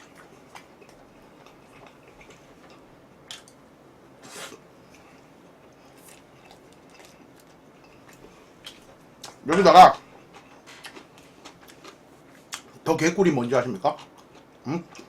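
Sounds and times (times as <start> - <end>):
person chewing food: 0.0 - 3.6, 4.2 - 12.8, 14.0 - 15.0.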